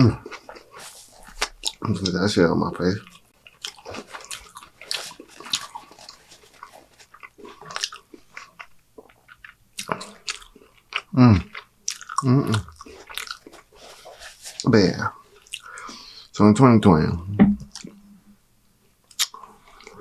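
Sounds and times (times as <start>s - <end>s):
chewing food: 0.0s - 16.0s, 19.0s - 20.0s.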